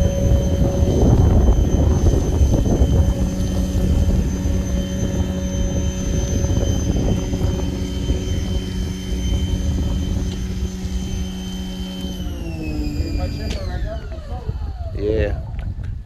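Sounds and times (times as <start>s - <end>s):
pressure washer motor humming: 0.0s - 15.3s.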